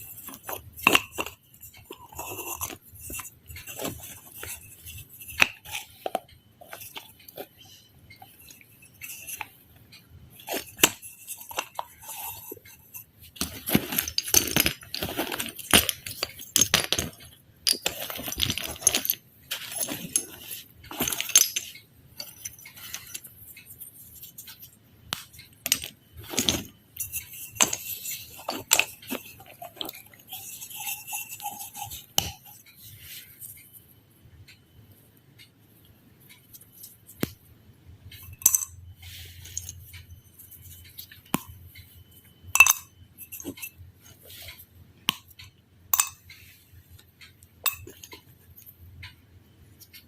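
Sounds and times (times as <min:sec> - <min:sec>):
handling taps and clicks: 0:00.0 - 0:33.8, 0:35.3 - 0:50.0.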